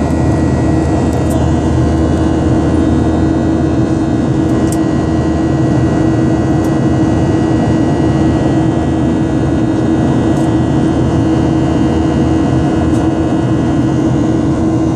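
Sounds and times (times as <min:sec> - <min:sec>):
jet engines droning: 0:00.0 - 0:14.9.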